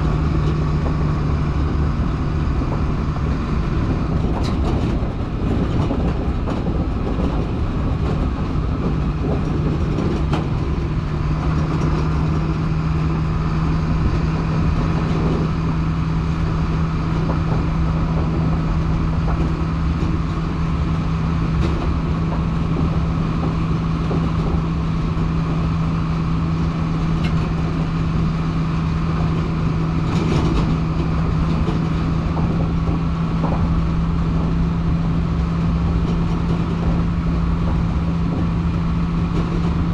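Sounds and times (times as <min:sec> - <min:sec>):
military truck driving: 0:00.0 - 0:39.9.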